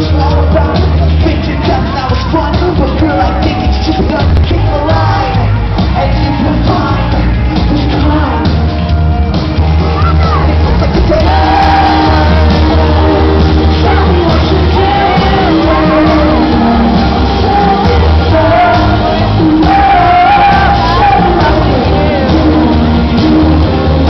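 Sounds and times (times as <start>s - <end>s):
lead vocal singing: 0.0s - 9.2s, 10.3s - 24.0s
fans singing and shouting along: 0.0s - 24.0s
live pop-rock band: 0.0s - 24.0s
electric guitar: 3.3s - 24.0s.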